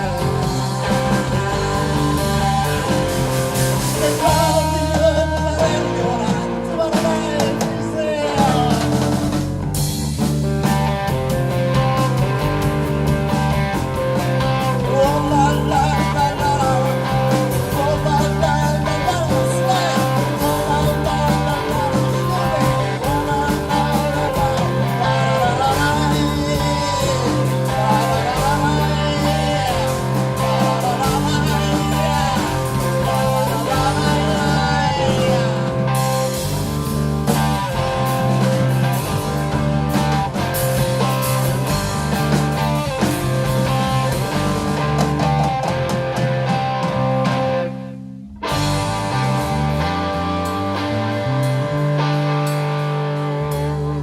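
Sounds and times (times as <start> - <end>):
electric guitar: 0.0 - 54.0
live rock band playing: 0.0 - 54.0.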